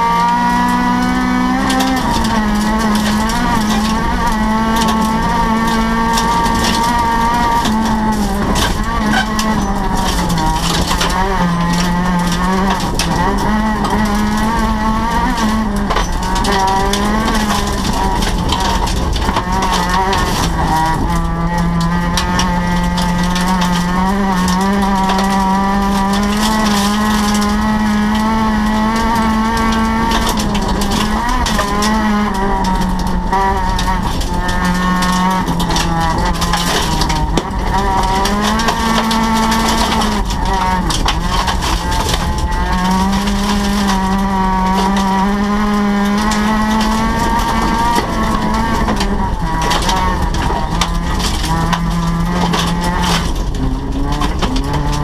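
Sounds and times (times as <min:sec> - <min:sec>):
rally car engine with gear changes: 0:00.0 - 0:55.0.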